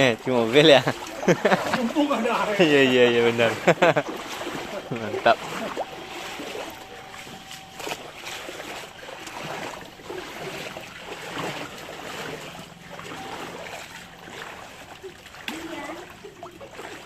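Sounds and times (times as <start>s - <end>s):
floodwater sloshing and splashing: 0.0s - 17.0s.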